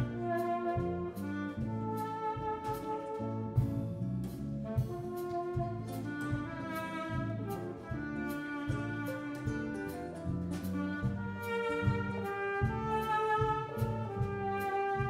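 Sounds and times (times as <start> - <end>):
alto saxophone melody: 0.0 - 3.8, 4.6 - 15.0
bass: 0.0 - 15.0
drum and cymbal hits: 0.0 - 15.0.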